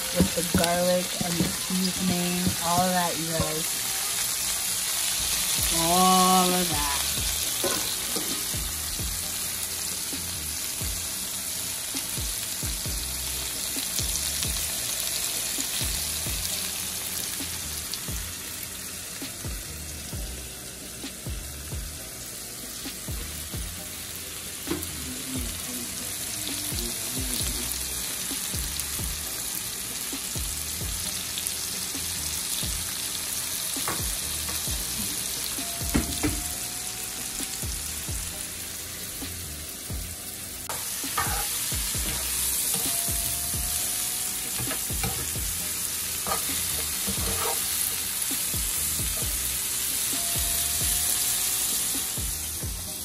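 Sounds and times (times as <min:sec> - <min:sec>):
food sizzling in a pot: 0:00.0 - 0:53.0.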